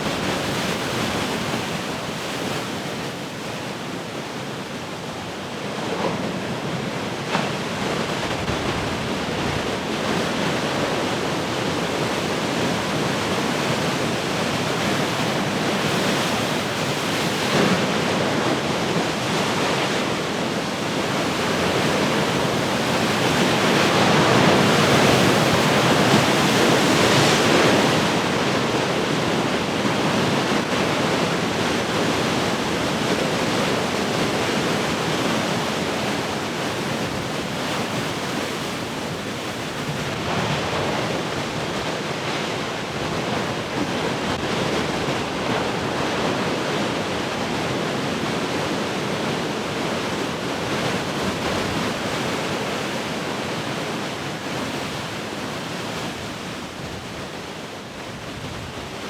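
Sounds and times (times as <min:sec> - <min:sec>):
ocean surf breaking: 0:00.0 - 0:03.8, 0:05.5 - 0:59.0.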